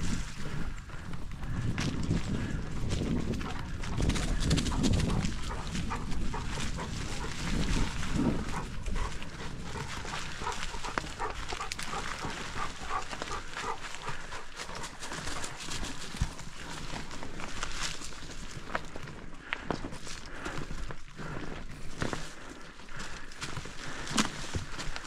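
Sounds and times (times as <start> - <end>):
bicycle rumbling on dirt trail: 0.0 - 25.0.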